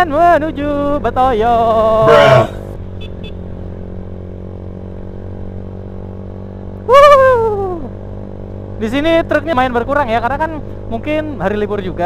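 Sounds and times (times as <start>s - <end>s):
motorcycle cruising: 0.0s - 12.0s.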